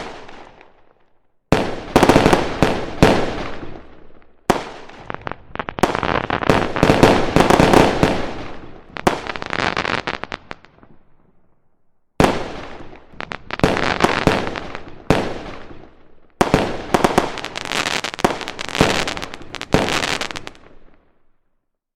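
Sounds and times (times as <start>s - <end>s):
fireworks bangs and crackling: 0.0s - 11.4s, 12.2s - 21.2s.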